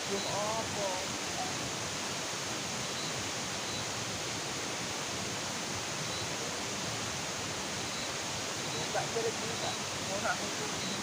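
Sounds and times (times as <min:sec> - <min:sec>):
outdoor rushing hiss: 0:00.0 - 0:11.0.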